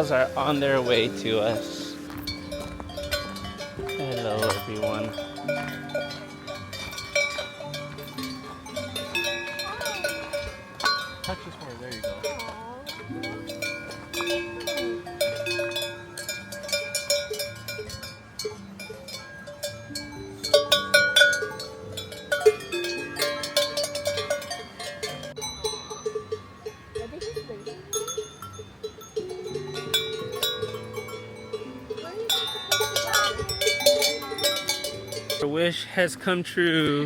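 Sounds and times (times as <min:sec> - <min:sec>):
cowbells clanking: 0:00.0 - 0:37.0.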